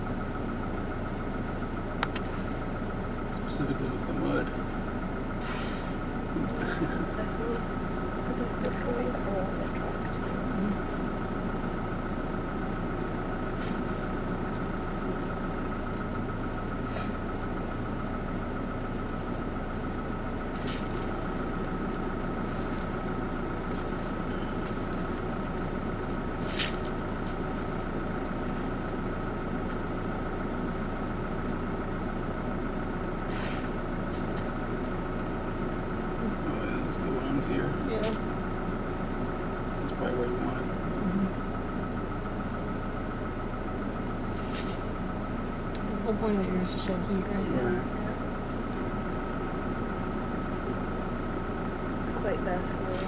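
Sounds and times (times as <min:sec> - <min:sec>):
vehicle engine idling: 0:00.0 - 0:53.0.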